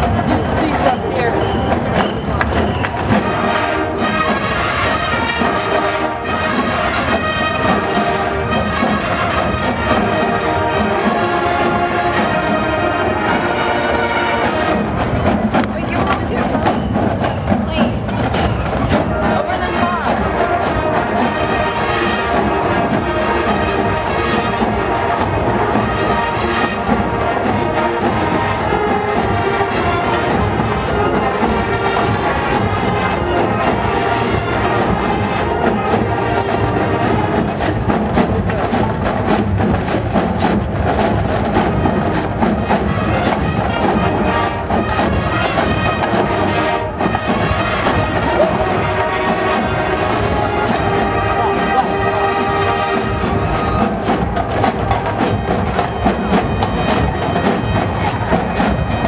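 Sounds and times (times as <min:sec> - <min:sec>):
marching bands playing brass: 0:00.0 - 0:59.0
steady drum beat: 0:00.0 - 0:59.0.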